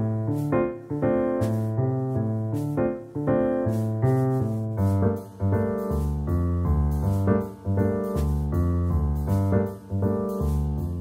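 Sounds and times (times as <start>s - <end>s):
background piano music: 0.0s - 11.0s.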